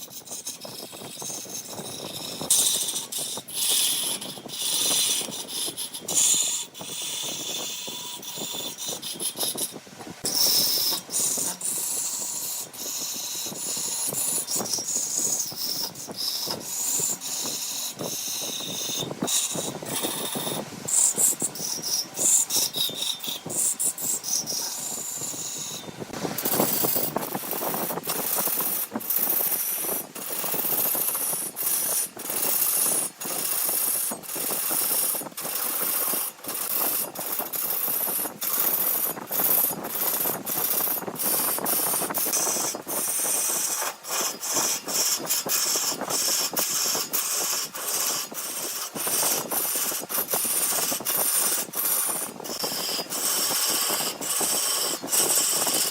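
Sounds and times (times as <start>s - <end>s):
lathe tool scraping wood: 0.0s - 55.9s.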